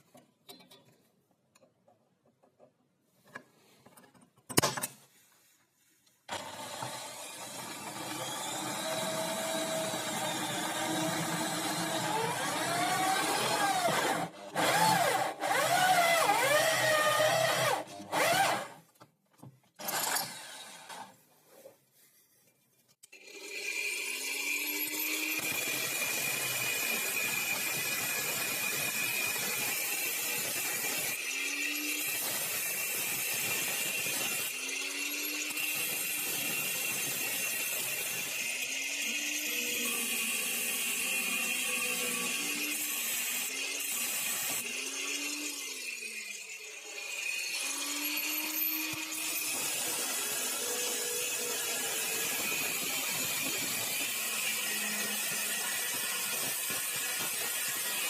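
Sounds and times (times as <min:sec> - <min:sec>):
electric power tool cutting wood: 0:06.3 - 0:18.8, 0:23.2 - 0:58.0.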